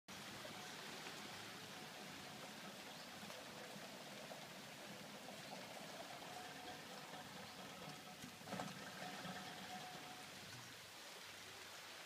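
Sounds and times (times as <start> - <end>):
shoreline ambience hiss: 0.1 - 12.0.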